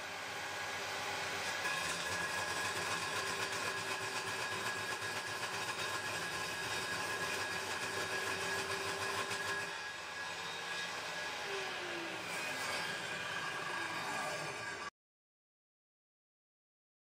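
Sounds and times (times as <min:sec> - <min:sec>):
table saw cutting wood: 0:00.0 - 0:14.9.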